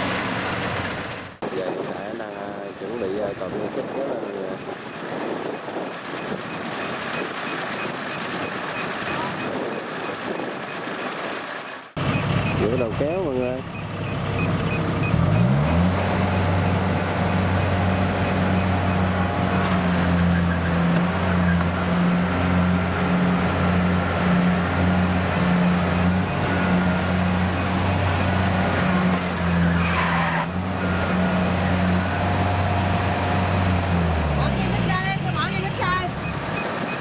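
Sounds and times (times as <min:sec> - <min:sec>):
diesel engine revving: 0:00.0 - 0:10.3, 0:11.0 - 0:37.0.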